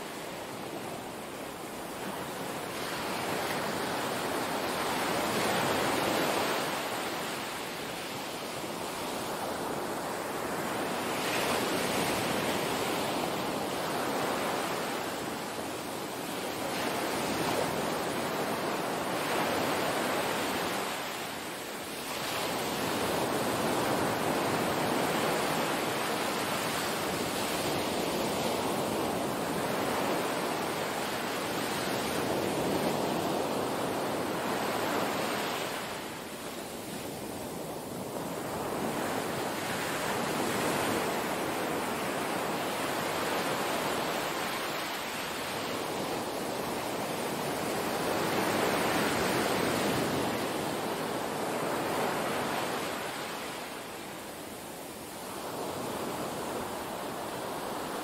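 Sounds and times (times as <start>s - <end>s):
small waves washing on beach: 0.0s - 58.0s.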